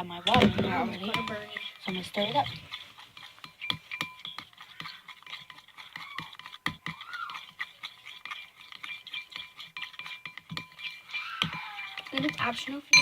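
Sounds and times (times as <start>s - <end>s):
utensil stirring in container: 0.0s - 13.0s.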